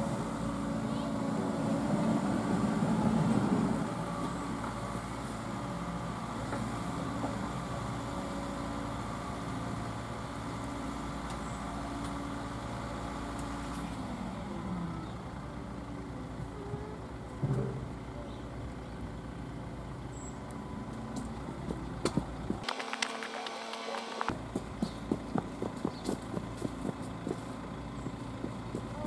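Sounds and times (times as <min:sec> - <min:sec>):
diesel excavator engine running: 0:00.0 - 0:29.0.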